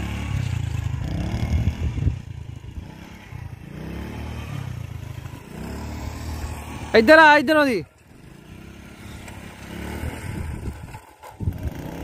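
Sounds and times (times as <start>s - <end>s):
small motorcycle engine revving: 0.0s - 12.0s.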